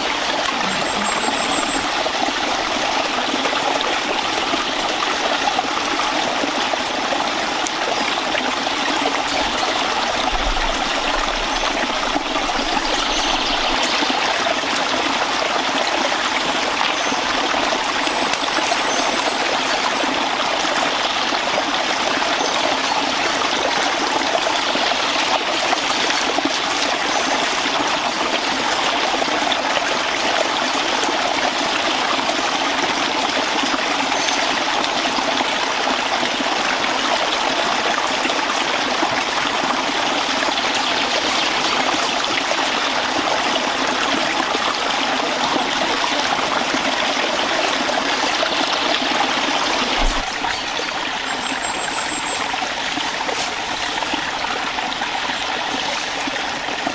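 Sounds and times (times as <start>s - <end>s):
stream water running: 0.0s - 56.9s.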